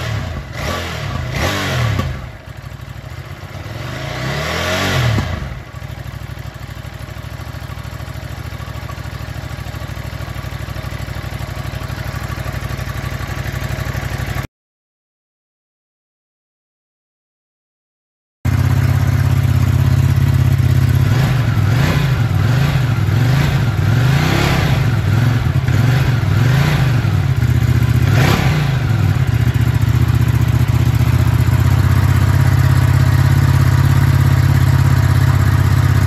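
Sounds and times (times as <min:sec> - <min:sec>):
motorcycle engine idling and revving: 0:00.0 - 0:14.5, 0:18.5 - 0:36.0.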